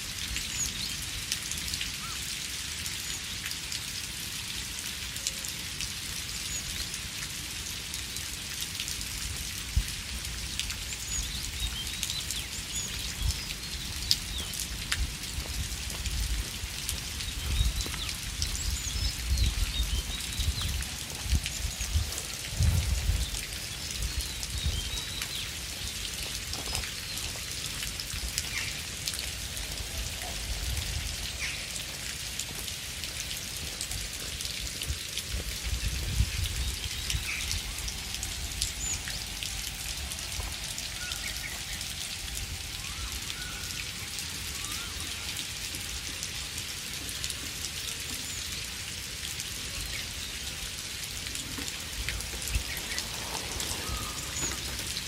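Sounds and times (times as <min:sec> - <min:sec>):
rain drops ticking: 0:00.0 - 0:55.0.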